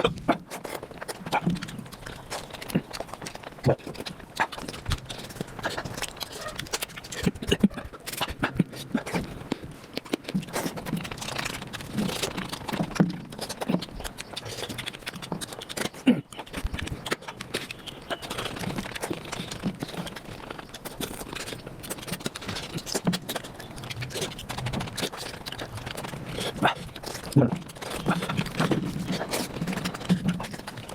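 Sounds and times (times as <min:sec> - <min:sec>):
sped-up chewing and slurping: 0:00.0 - 0:30.9.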